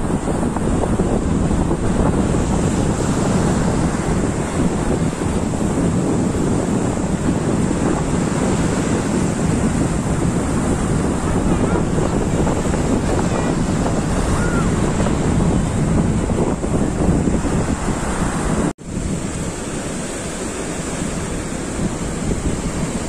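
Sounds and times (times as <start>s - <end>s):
sea waves breaking: 0.0s - 23.0s
wind buffeting microphone: 0.0s - 23.0s.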